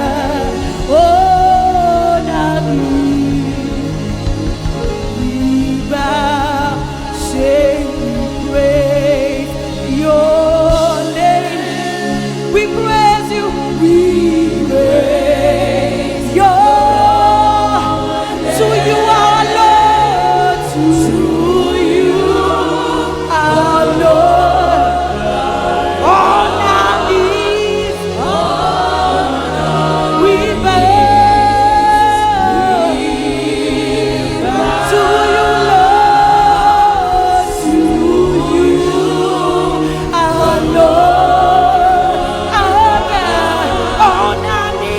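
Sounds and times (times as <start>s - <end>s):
choir singing: 0.0s - 44.9s
low sustained band notes: 0.0s - 44.9s.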